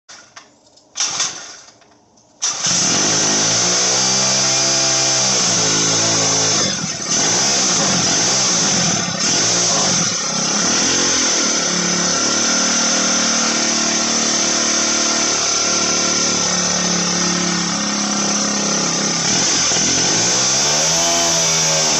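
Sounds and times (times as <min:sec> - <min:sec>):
small two-stroke engine revving: 0:02.4 - 0:21.9.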